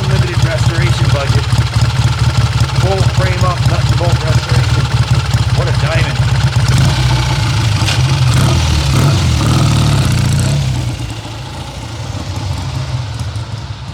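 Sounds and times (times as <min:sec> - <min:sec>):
motorcycle engine pulsing exhaust: 0:00.0 - 0:13.9.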